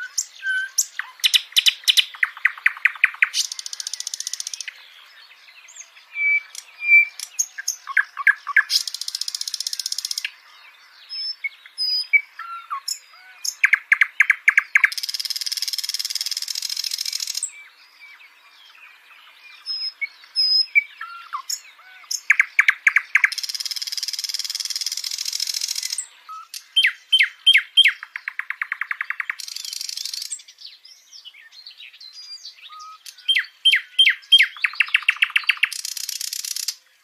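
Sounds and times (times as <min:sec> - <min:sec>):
nightingale singing: 0:00.0 - 0:37.0.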